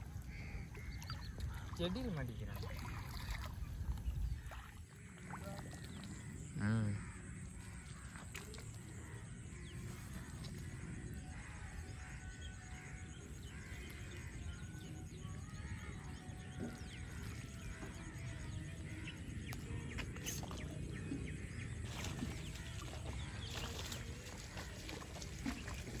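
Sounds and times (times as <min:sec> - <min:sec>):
bird calls and chirps: 0:00.0 - 0:26.0.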